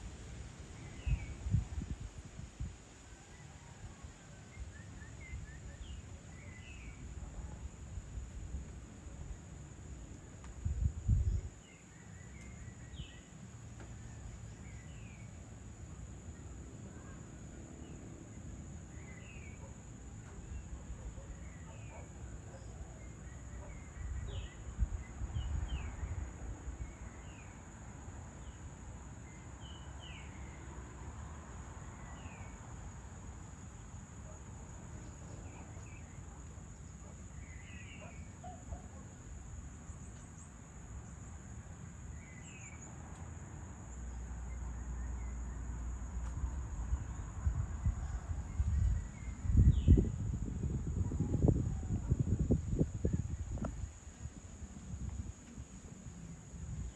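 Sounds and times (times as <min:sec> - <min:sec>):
insects droning: 0:00.0 - 0:56.9.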